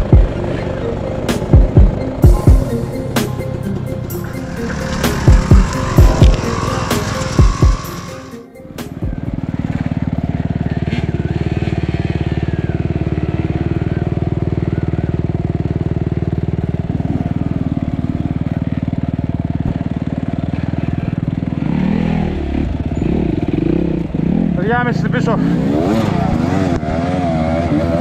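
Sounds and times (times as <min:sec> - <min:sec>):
motorcycle engine running steadily: 0:00.0 - 0:25.6.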